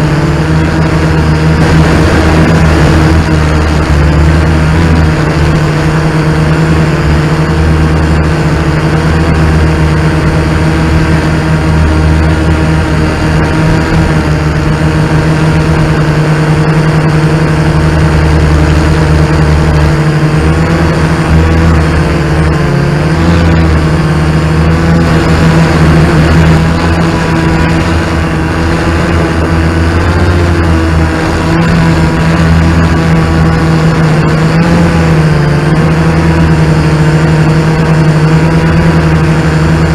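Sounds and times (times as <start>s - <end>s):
quadcopter drone buzzing: 0.0s - 39.9s.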